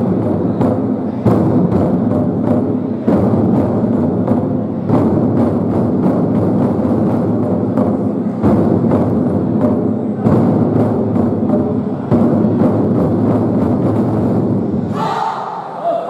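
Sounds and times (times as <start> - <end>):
large barrel drums rolling: 0.0 - 15.0.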